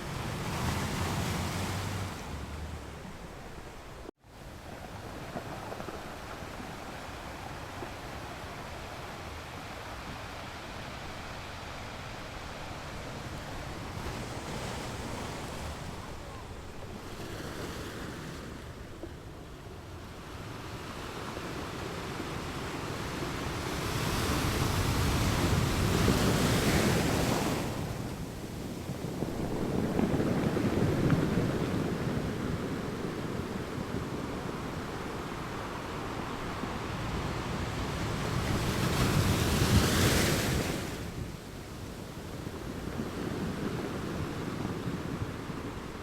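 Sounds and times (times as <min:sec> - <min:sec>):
waves washing onto beach: 0:00.0 - 0:46.0.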